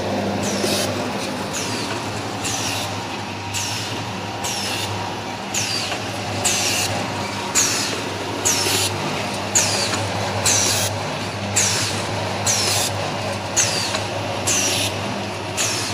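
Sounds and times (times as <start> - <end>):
machine motor hum: 0.0 - 15.9.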